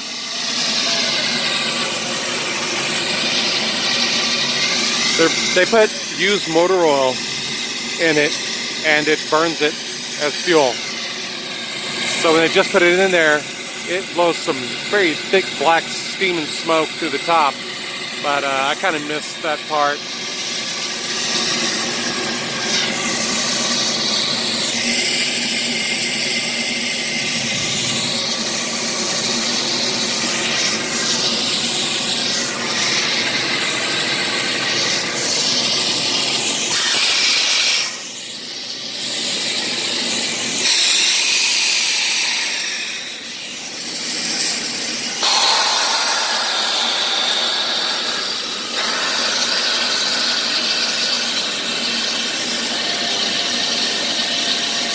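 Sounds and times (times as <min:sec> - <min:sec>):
steam locomotive hissing steam: 0:00.0 - 0:54.9.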